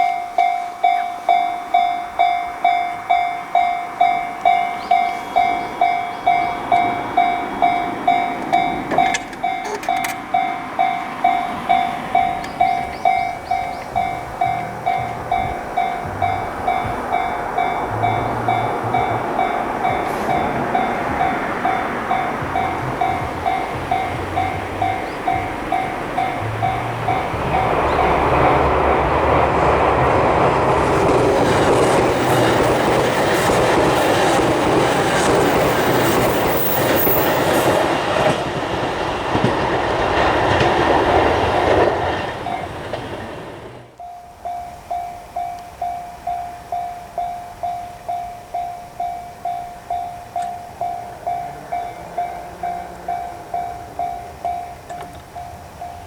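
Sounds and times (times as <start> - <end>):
crossing warning bell dinging: 0.0 - 56.0
train wheels clattering: 0.0 - 56.0.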